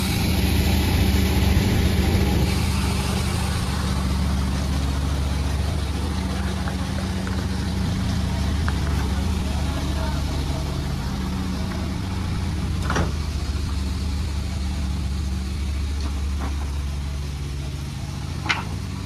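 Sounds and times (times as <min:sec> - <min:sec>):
sawmill motor running: 0:00.0 - 0:19.0.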